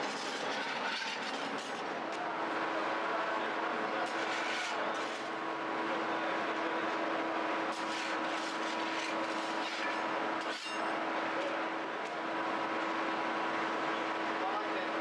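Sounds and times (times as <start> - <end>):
bakery machinery humming: 0.0 - 15.0.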